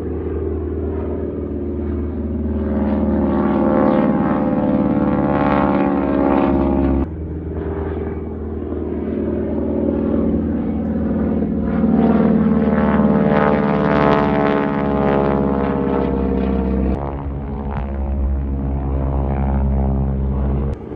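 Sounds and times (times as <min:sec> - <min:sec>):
propeller aircraft flying over: 0:00.0 - 0:20.9.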